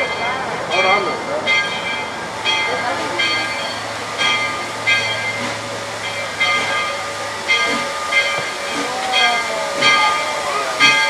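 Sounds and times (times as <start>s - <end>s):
locomotive bell ringing: 0.0s - 11.0s
steam engine low hum: 0.0s - 11.0s.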